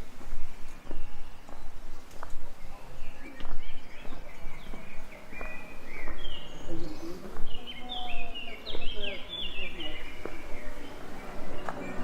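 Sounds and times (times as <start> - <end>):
low village hum: 0.0 - 12.0
small birds chirping: 0.0 - 12.0.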